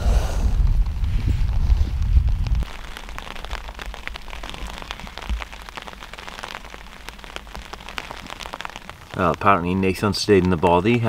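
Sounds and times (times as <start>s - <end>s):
rain pattering on tent fabric: 0.0s - 11.0s.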